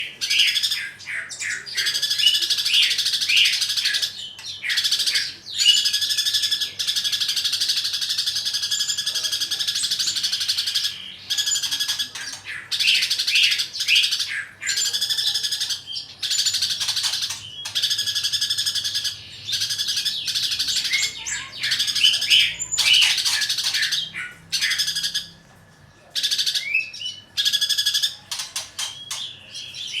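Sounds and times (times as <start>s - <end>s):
bird chattering song: 0.0s - 25.4s, 26.0s - 30.0s.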